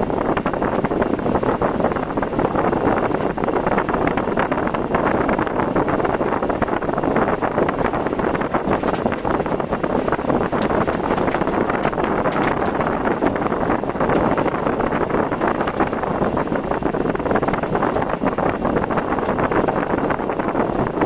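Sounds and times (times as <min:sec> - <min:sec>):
car road noise: 0:00.0 - 0:21.0
wind rushing: 0:00.0 - 0:21.0.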